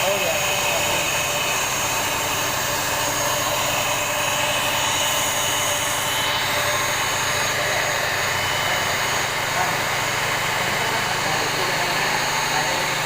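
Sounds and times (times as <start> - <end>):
cnc router spindle whining: 0.0 - 13.0.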